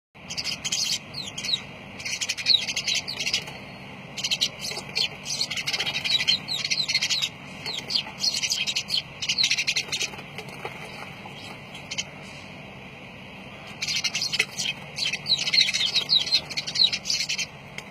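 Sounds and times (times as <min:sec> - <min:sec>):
birds chirping and chattering: 0:00.2 - 0:17.9.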